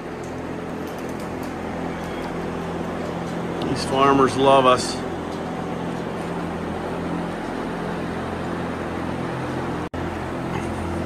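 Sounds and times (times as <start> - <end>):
mechanical hum with rushing noise: 0.0 - 11.0.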